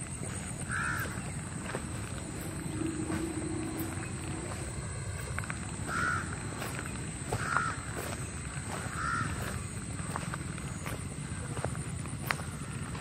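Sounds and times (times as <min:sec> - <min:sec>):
bird calling: 0:00.0 - 0:13.0
low background noise: 0:00.0 - 0:13.0.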